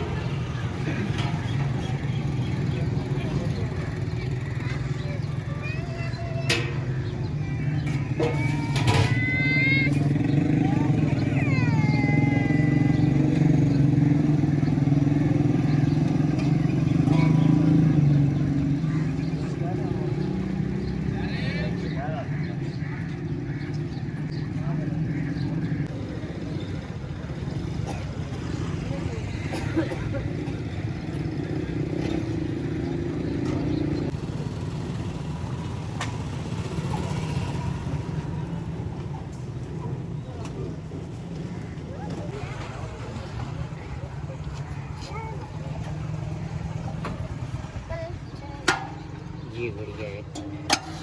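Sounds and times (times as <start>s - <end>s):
low roadside rumble: 0.0s - 51.0s.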